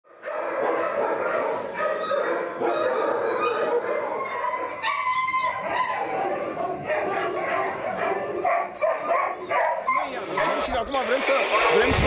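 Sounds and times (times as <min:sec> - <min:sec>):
dogs barking and yelping: 0:00.1 - 0:10.7.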